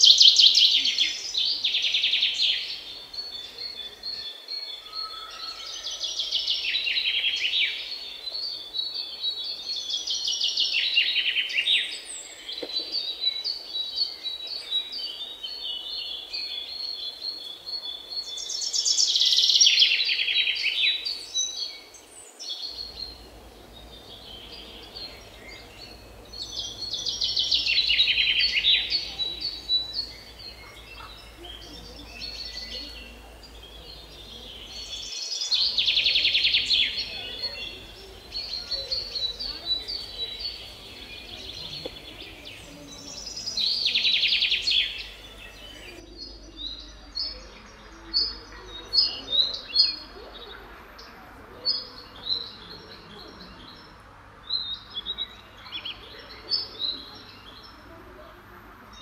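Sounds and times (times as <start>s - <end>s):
birds chirping in trilled bursts: 0.0s - 59.0s.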